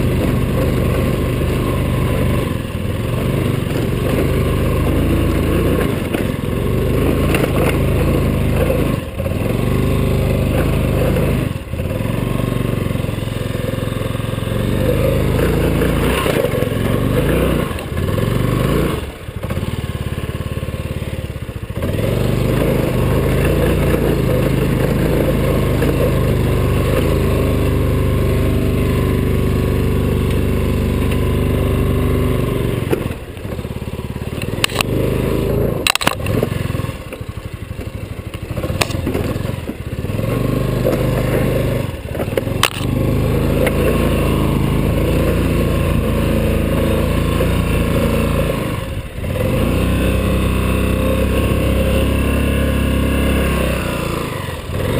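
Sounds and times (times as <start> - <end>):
scooter engine revving: 0.0 - 54.9.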